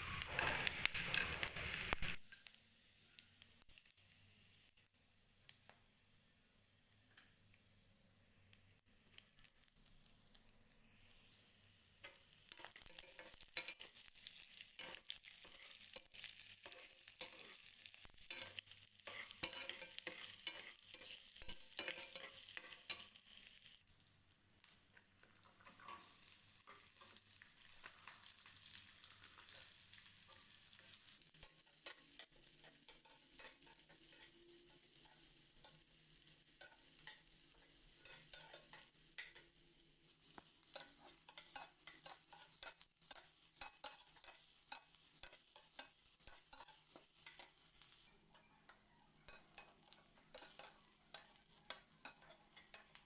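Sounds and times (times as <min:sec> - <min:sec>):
spoon scraping a pan: 0:00.0 - 0:02.5, 0:12.0 - 0:23.8, 0:24.6 - 0:53.0
food sizzling in a pan: 0:00.0 - 0:05.9, 0:08.7 - 0:53.0.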